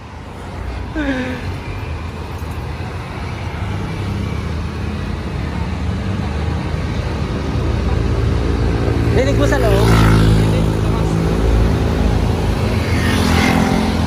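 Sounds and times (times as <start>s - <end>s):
road traffic: 0.0s - 14.0s
vehicle engine hum: 0.0s - 14.0s.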